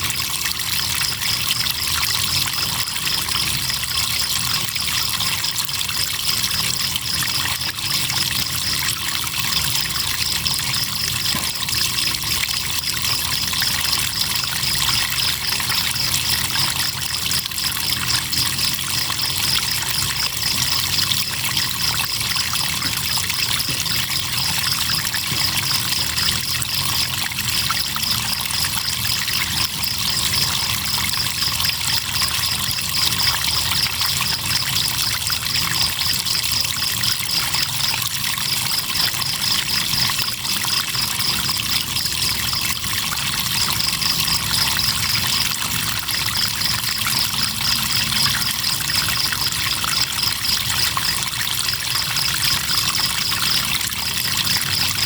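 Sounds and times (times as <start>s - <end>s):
crickets chirping: 0.0s - 55.0s
river water trickling: 0.0s - 55.0s.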